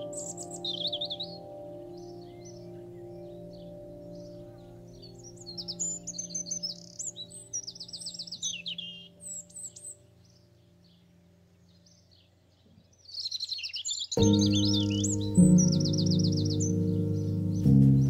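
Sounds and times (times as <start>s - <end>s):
loud sustained low chord: 0.0s - 12.6s, 14.2s - 18.0s
faint held music tones: 0.0s - 18.0s
songbirds chirping and trilling: 0.0s - 18.0s.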